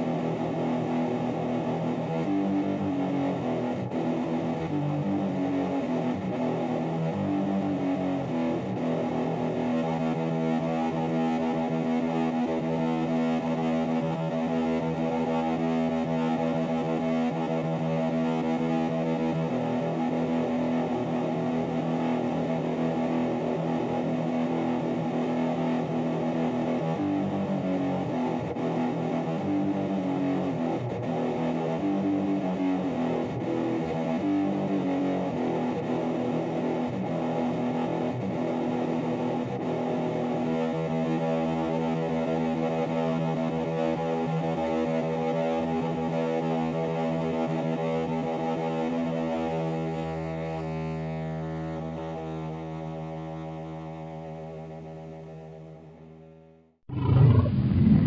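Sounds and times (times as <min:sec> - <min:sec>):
distorted guitar music: 0:00.0 - 0:56.0.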